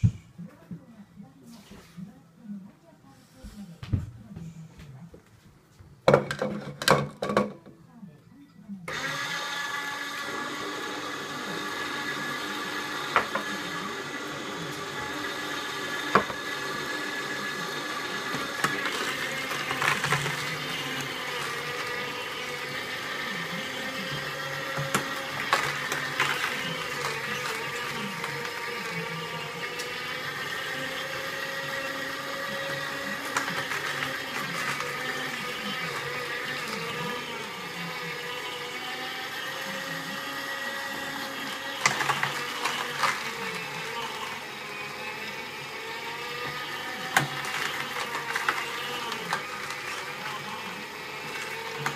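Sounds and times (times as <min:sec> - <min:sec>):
juicer motor hum: 0:08.9 - 0:51.9.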